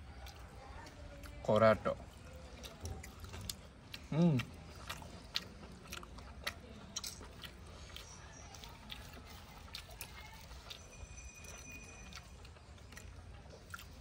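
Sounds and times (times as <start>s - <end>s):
faint chewing: 0.0s - 14.0s
fingers squishing food on a plate: 2.0s - 14.0s.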